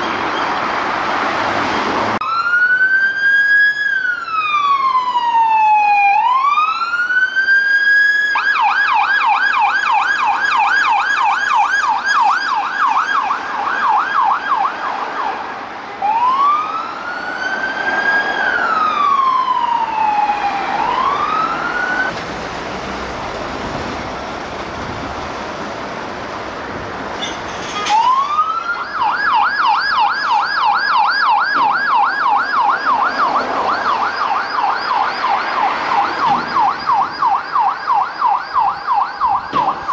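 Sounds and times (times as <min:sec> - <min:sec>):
street noise: 0:00.0 - 0:39.9
police siren wail and yelp: 0:02.2 - 0:22.2, 0:27.8 - 0:39.9.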